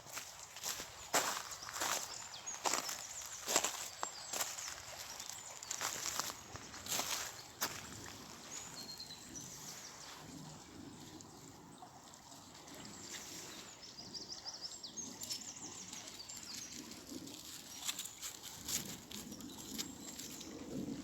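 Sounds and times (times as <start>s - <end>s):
faint outdoor background noise: 0.0s - 21.0s.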